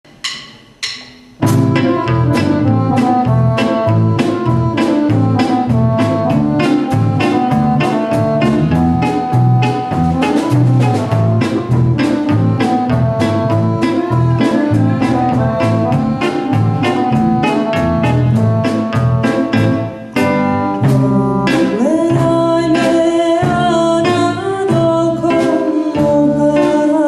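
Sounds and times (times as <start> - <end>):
instrumental band music: 0.1 - 27.0.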